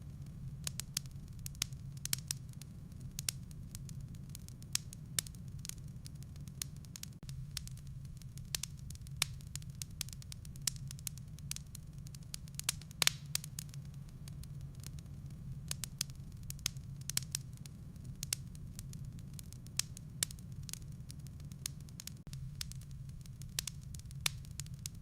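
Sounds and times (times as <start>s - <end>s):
firewood crackling and popping: 0.0s - 25.0s
low steady rumble: 0.0s - 25.0s.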